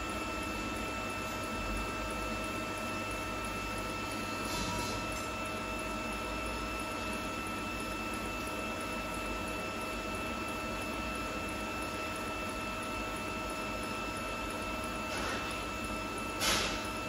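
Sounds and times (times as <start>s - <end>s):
welding arc humming and whining: 0.0s - 17.0s.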